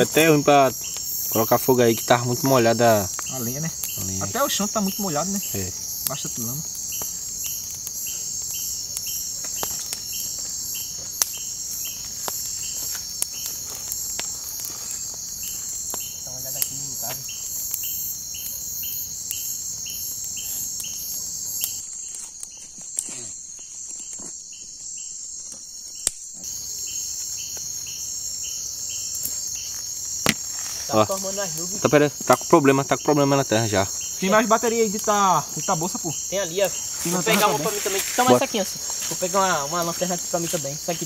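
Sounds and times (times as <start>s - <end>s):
campfire crackling: 0.0s - 41.0s
night insects trilling: 0.0s - 41.0s.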